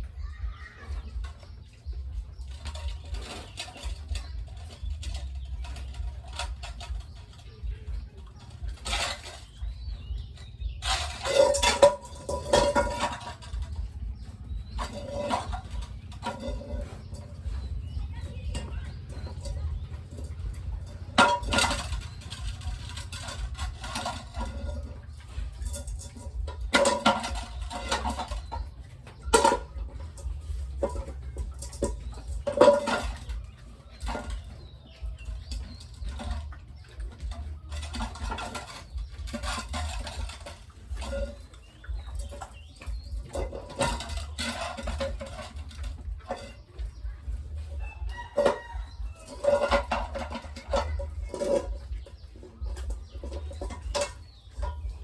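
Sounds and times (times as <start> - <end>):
chickens clucking and squawking: 0.0 - 55.0
steady low hum: 0.0 - 55.0
clattering: 0.6 - 55.0.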